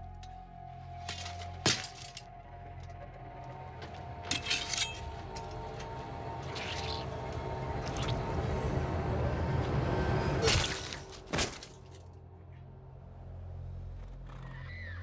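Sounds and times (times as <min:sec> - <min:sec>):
low quiet drone: 0:00.0 - 0:14.6
tense film score: 0:00.0 - 0:15.0.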